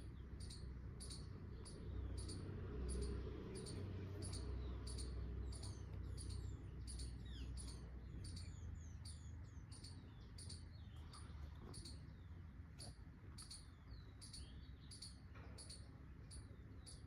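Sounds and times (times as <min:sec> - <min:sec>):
low steady rumble: 0:00.0 - 0:17.0
songbirds chirping: 0:00.0 - 0:17.0.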